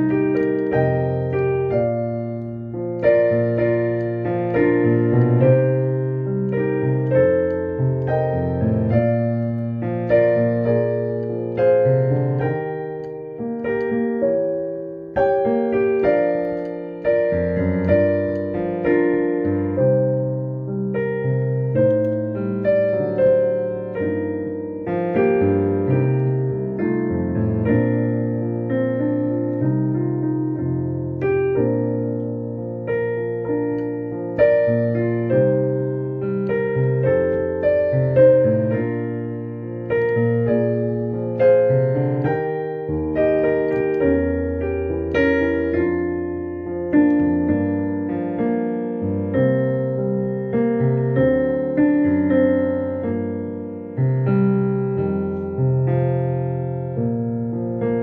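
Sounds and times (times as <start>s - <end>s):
slow hymn on piano: 0.0s - 58.0s.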